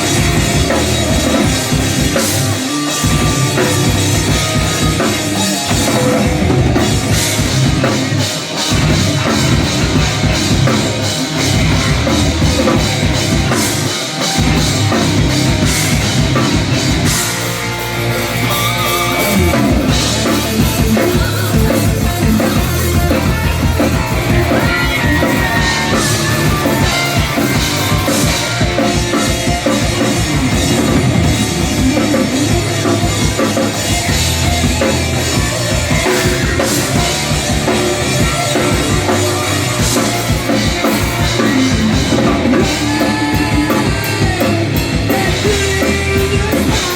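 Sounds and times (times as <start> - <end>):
heavy metal band playing live: 0.0 - 46.9.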